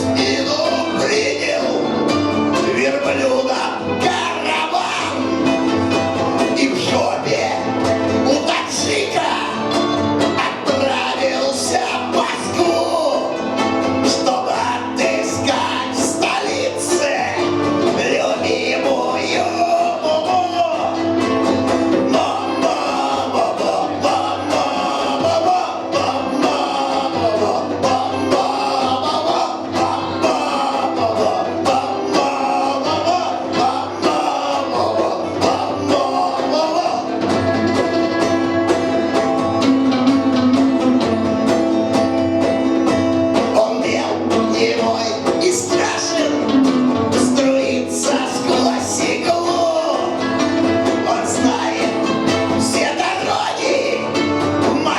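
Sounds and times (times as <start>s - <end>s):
person singing: 0.0s - 42.5s, 43.1s - 54.9s
punk band playing: 0.0s - 54.9s.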